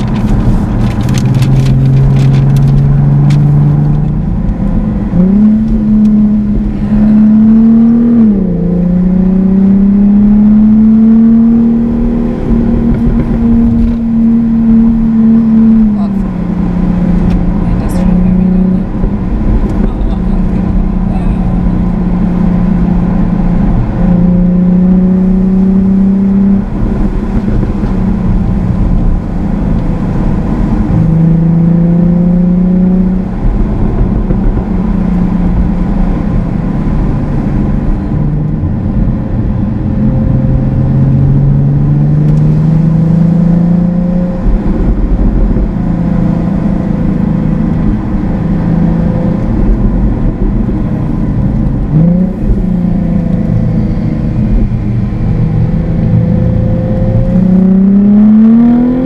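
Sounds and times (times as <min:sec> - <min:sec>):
car engine revving in cabin: 0:00.0 - 0:59.0.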